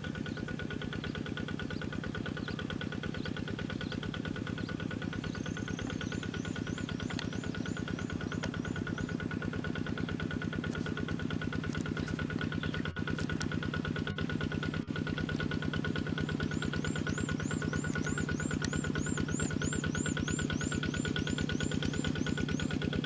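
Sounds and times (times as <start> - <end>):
diesel engine chugging: 0.0 - 23.0
bird chirping: 0.2 - 11.1, 11.7 - 14.8, 16.0 - 23.0.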